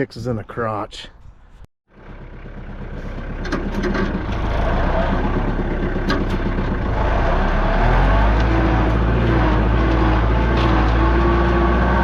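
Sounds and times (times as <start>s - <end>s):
diesel engine of earthmover: 1.9s - 12.0s.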